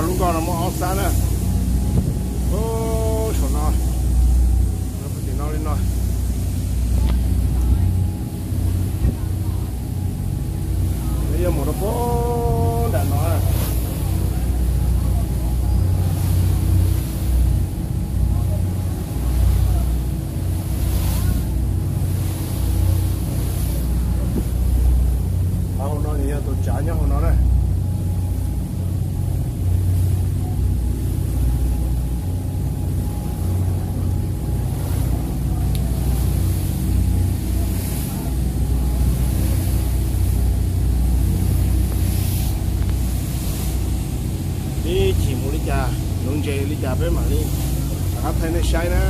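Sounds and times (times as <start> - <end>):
motorboat rumble: 0.0 - 49.0.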